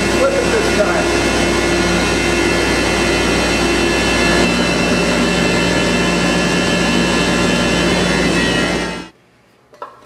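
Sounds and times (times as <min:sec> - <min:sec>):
thickness planer running: 0:00.0 - 0:09.1.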